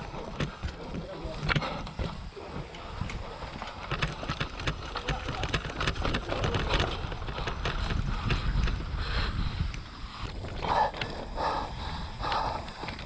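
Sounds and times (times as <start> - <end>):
bike rattling over rocks: 0.0 - 13.0
wind buffeting microphone: 0.0 - 13.0.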